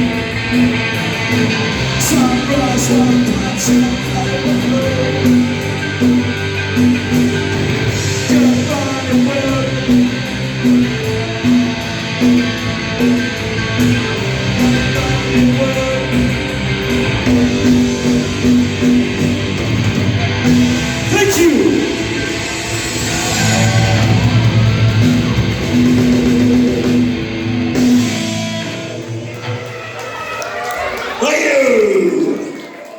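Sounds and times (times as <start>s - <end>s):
punk rock band playing live: 0.0s - 30.0s.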